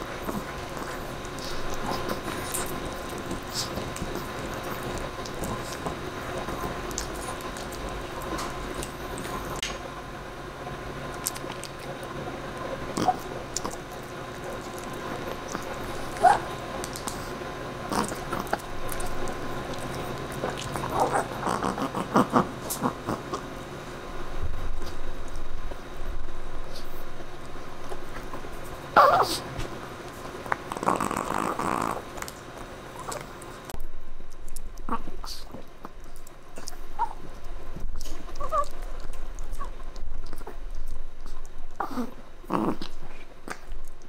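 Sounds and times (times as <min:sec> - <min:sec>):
dog chewing a bone: 0:00.0 - 0:09.7, 0:11.1 - 0:23.5, 0:26.7 - 0:44.0.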